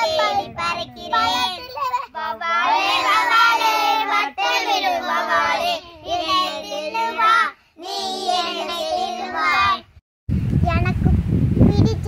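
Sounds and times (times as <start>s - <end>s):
children singing together: 0.0s - 9.9s.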